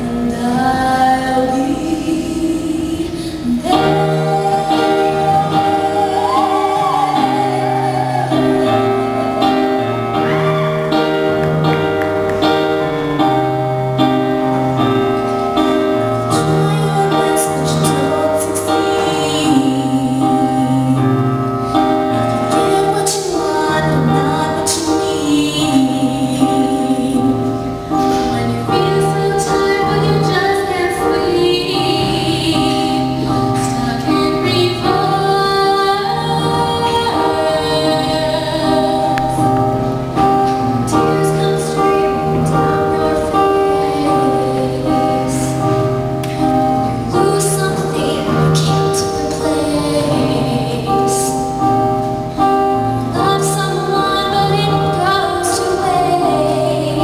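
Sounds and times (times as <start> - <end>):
girl singing lead: 0.0 - 13.1, 14.1 - 57.0
choir singing harmonies: 0.0 - 57.0
piano accompaniment: 0.0 - 57.0.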